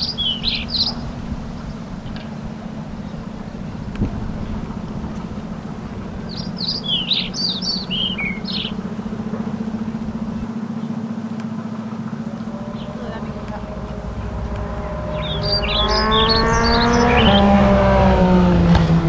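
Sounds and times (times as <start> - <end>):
low engine hum: 0.0 - 19.0
songbird chirping: 0.0 - 19.0.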